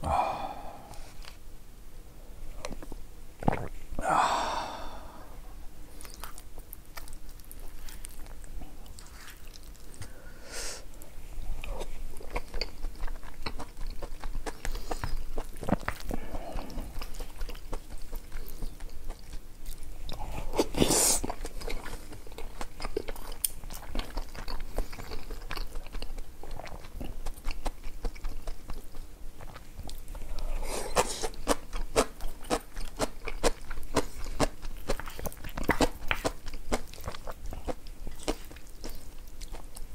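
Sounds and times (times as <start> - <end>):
person chewing food: 2.6 - 39.9.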